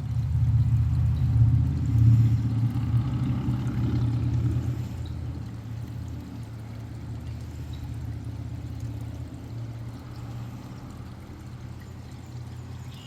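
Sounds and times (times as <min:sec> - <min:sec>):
low motor hum: 0:00.0 - 0:13.0
noise wash: 0:00.0 - 0:13.0.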